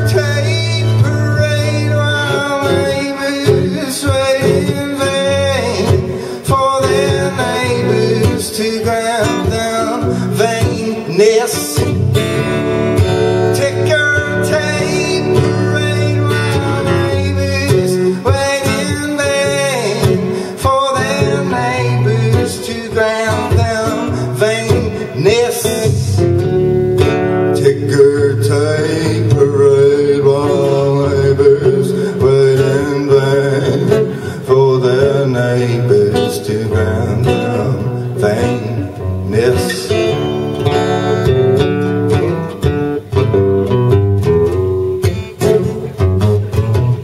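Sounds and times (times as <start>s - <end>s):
man singing: 0.0s - 42.7s
acoustic guitar strumming: 0.0s - 47.0s.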